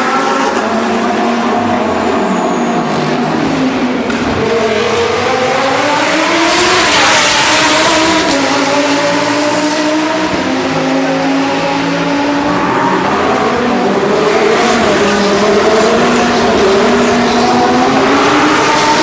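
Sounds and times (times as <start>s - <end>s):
race car engines revving: 0.0s - 19.0s
race car passing by: 0.0s - 19.0s.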